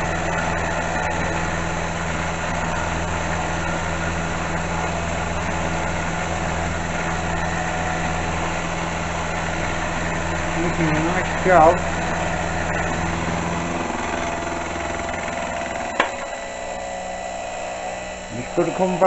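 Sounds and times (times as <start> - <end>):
machine tool motor hum: 0.0 - 19.0.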